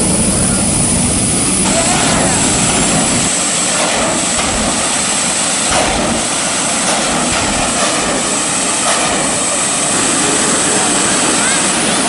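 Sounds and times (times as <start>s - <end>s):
race vehicle engine running: 0.0s - 11.6s
high hiss: 0.0s - 12.0s.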